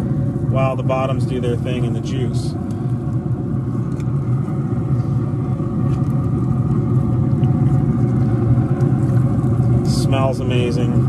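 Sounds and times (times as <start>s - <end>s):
smoker running with low hum: 0.0s - 11.0s.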